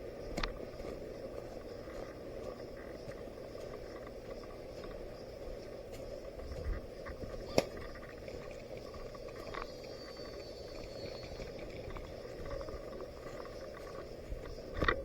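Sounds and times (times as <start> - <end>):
faint ticks: 0.0 - 15.0
outdoor background noise: 0.0 - 15.0.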